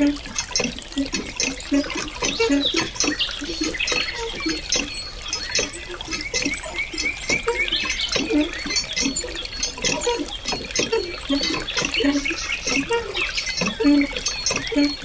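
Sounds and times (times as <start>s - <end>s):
water trickling into a pool: 0.0s - 15.0s.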